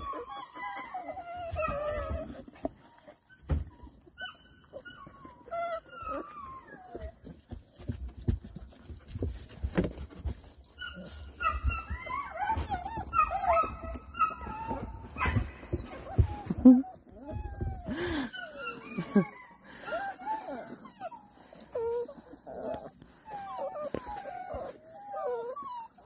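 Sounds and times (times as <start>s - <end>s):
puppies whining and yelping: 0.0s - 8.2s, 8.8s - 26.0s.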